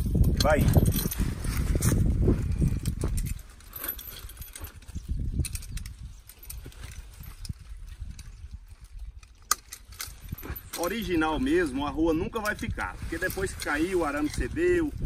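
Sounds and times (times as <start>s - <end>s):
chain links clinking: 0.0s - 15.0s.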